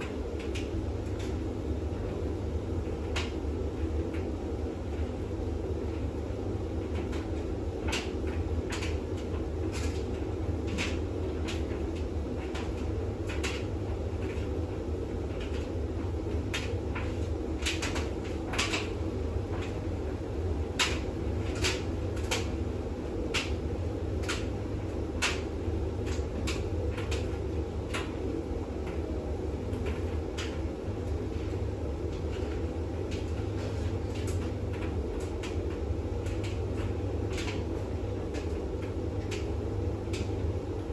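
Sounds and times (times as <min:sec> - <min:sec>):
washing machine drum humming: 0:00.0 - 0:40.9.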